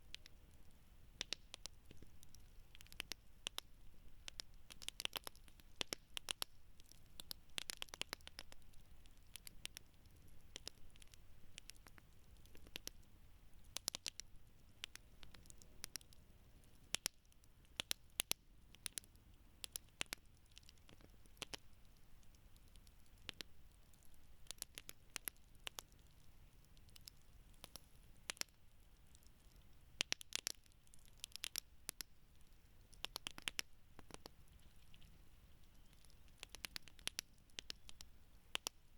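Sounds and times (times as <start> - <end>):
campfire crackling: 0.0 - 38.9
faint low hiss: 0.0 - 38.9.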